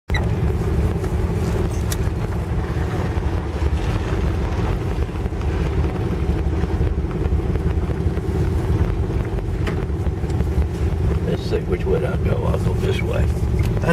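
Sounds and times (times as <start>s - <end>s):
car engine and road rumble: 0.1s - 13.9s
wind noise on microphone: 0.1s - 13.9s.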